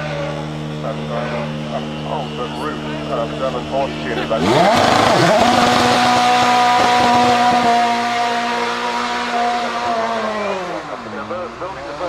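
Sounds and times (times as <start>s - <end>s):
car engine at high revs passing: 0.0s - 12.0s.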